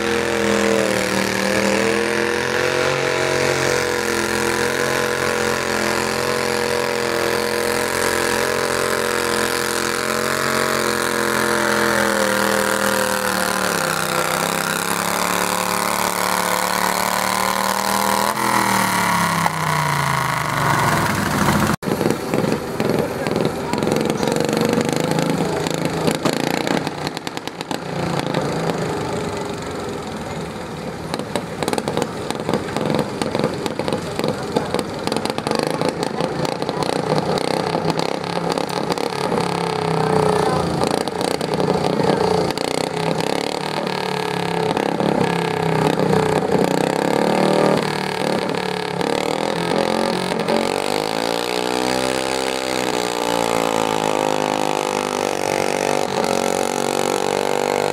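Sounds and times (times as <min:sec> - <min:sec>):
tractor engine revving: 0:00.0 - 0:57.9.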